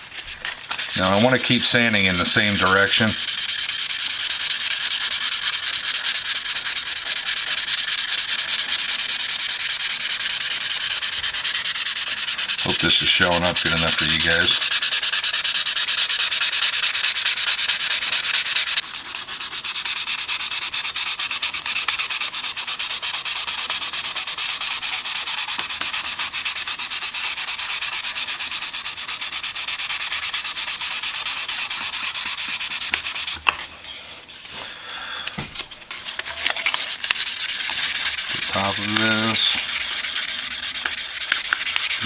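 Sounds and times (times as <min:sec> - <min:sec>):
sandpaper rasping on metal: 0:00.0 - 0:34.0, 0:35.9 - 0:42.0.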